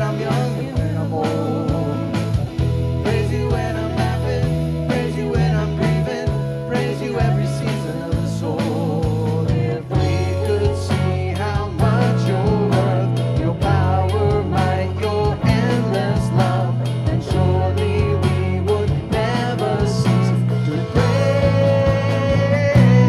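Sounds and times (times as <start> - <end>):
band playing live: 0.0 - 23.0.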